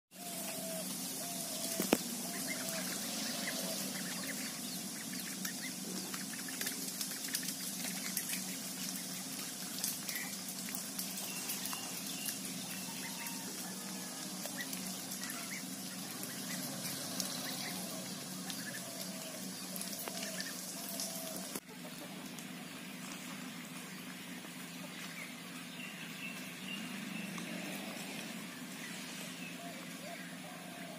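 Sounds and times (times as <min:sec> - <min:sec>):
ducks dabbling and splashing in mud: 0:00.2 - 0:30.9
steady high background hiss: 0:00.2 - 0:30.9
chickens clucking: 0:00.4 - 0:25.7.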